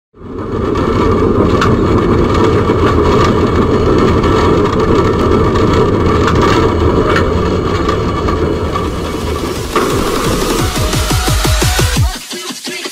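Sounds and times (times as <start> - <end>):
tram rumbling on track: 0.1 - 12.1
constant tone: 0.2 - 12.2.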